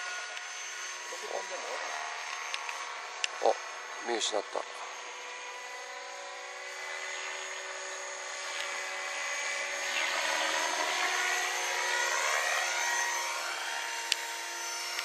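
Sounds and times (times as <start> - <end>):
model helicopter motor whine: 0.0 - 15.0.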